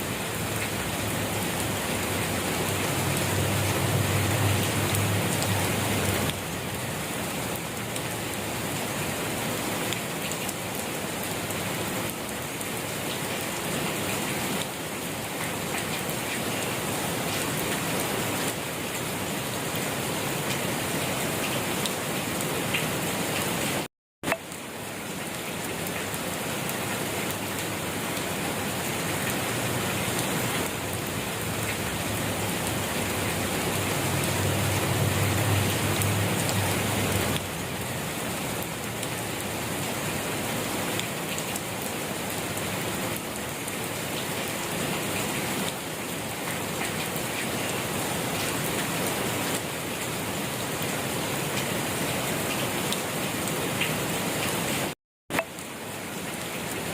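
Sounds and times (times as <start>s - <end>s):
rain falling on a surface: 0.0s - 56.9s.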